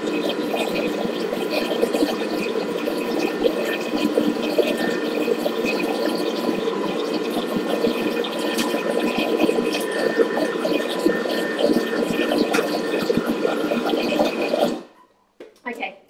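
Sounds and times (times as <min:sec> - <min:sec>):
batter churning: 0:00.0 - 0:14.9
blender motor whirring: 0:00.0 - 0:14.9.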